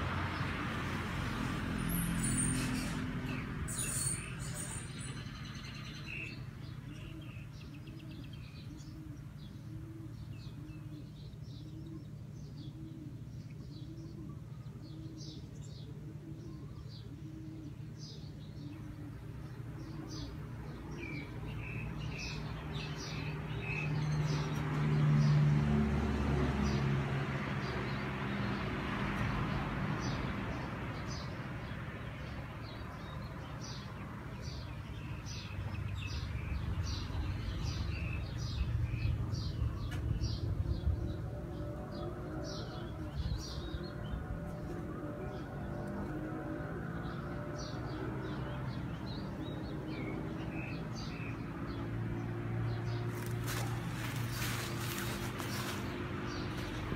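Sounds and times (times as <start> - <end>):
small birds chirping: 1.8 - 25.4, 30.0 - 56.9.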